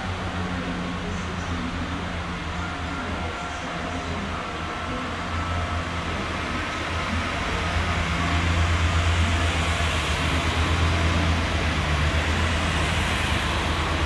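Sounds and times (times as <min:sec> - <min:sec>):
diesel train engine humming: 0:00.0 - 0:14.0.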